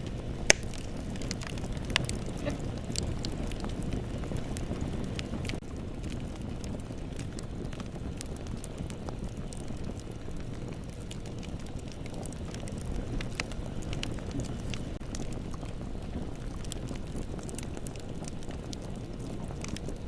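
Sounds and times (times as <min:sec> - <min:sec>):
burning wood crackling: 0:00.0 - 0:20.0
flames rumbling: 0:00.0 - 0:20.0.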